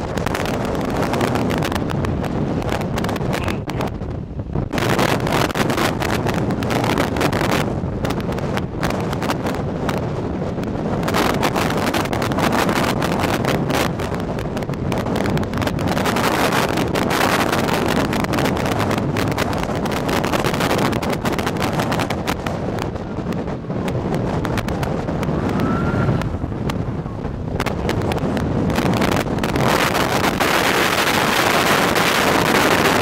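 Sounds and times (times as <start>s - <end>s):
low vehicle rumble: 0.0s - 33.0s
wind buffeting microphone: 0.0s - 33.0s.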